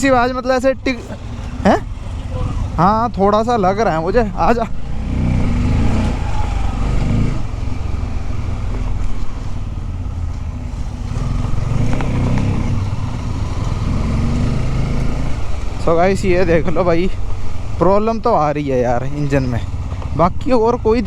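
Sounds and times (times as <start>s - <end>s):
motorcycle engine running: 0.0s - 21.0s
light engine ticking: 0.9s - 21.0s.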